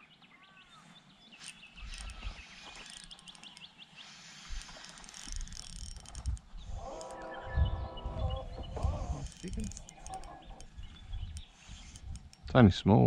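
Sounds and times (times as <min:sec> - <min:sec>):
birds chirping: 0:00.0 - 0:13.0
quick high twittering: 0:01.4 - 0:12.4.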